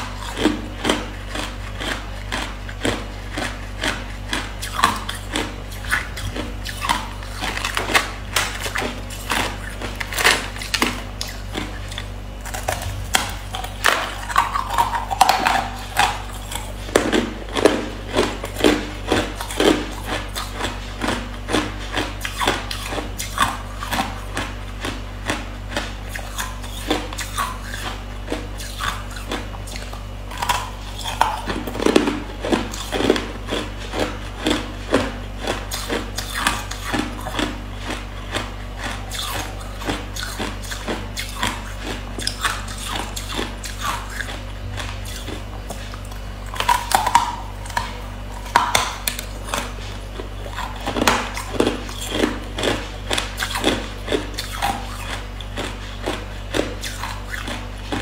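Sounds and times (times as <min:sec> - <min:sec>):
ice being chewed: 0:00.0 - 0:58.0.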